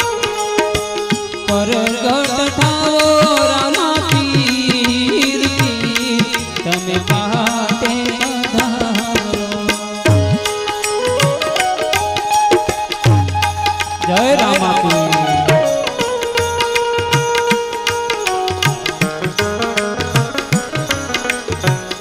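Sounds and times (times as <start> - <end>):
hand drum rhythm: 0.0 - 22.0.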